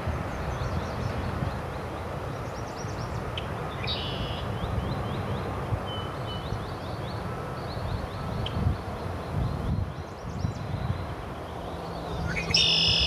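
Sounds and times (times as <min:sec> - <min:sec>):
bird chirping: 0:00.4 - 0:13.0.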